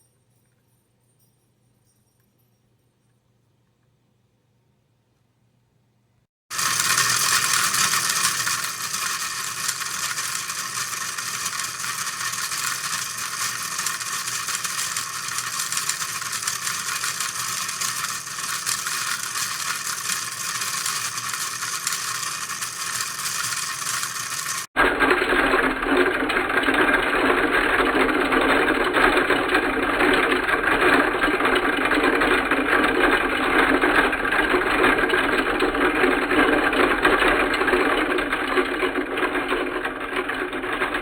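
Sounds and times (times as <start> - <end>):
small motor driving plastic gears: 6.5 - 41.0.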